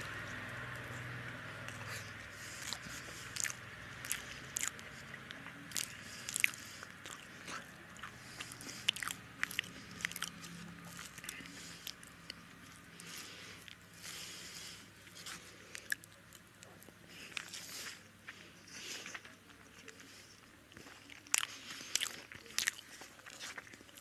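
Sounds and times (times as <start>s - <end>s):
chewing with wet mouth smacks: 0.0s - 14.3s, 15.0s - 24.0s.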